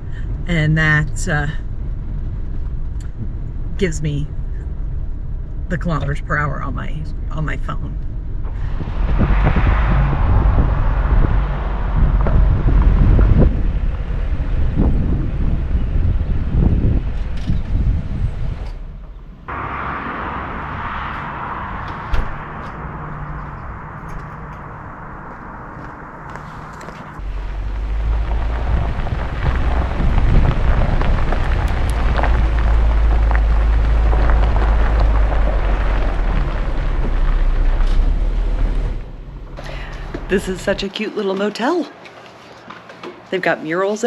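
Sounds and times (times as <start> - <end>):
wind buffeting microphone: 0.0 - 41.4
heavy low rumble: 0.0 - 41.5
car tyre and engine noise: 0.0 - 43.3.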